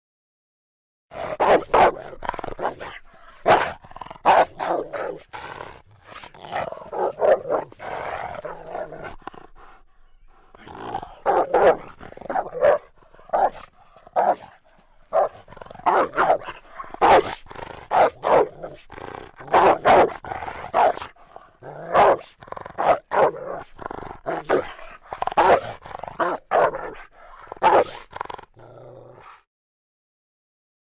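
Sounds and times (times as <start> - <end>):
wolf barking: 1.1 - 29.4.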